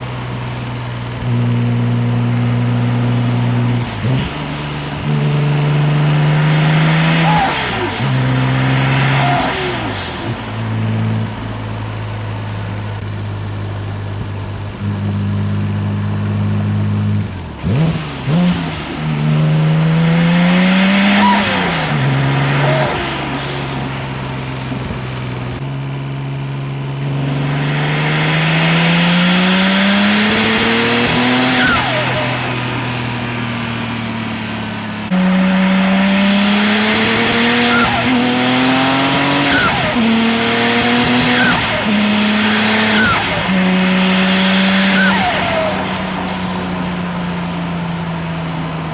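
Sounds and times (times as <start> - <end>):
engine revving at full throttle: 0.0 - 48.9.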